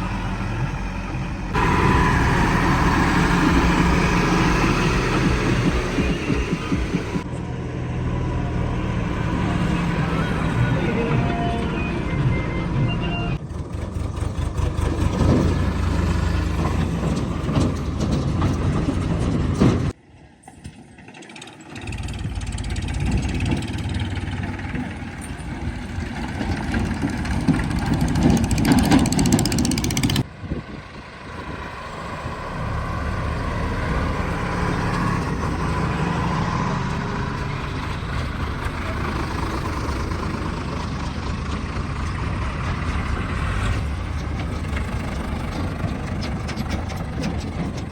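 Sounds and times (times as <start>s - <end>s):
diesel engine running: 0.0s - 20.0s, 21.7s - 47.9s.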